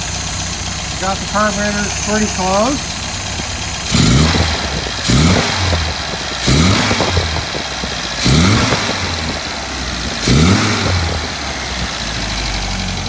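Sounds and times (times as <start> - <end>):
car engine revving from idle: 0.0 - 13.0.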